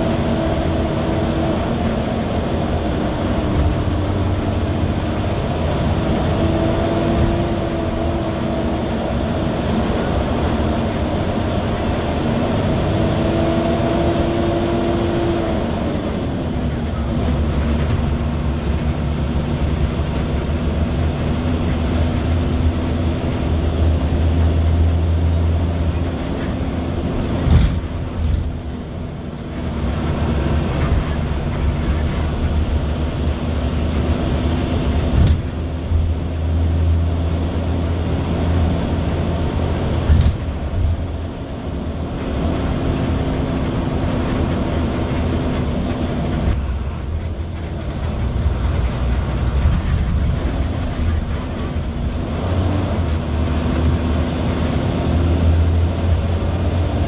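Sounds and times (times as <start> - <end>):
road rumble: 0.0 - 57.0
vehicle engine drone: 0.0 - 57.0.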